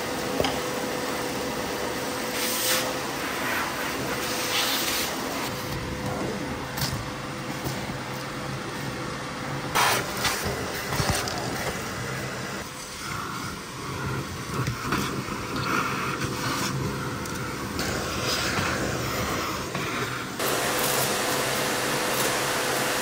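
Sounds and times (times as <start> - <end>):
shop vacuum sucking: 0.0 - 23.0.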